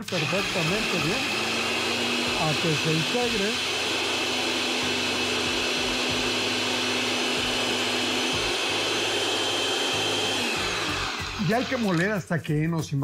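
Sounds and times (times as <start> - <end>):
blender motor whine: 0.0 - 12.1.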